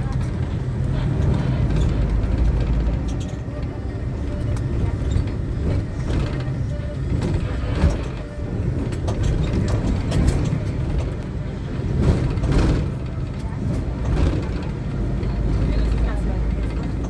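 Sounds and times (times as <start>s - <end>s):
minibus engine and road rumble: 0.0s - 17.0s
rushing clatter: 0.0s - 17.0s
vehicle body rattling and clicking: 0.0s - 17.0s.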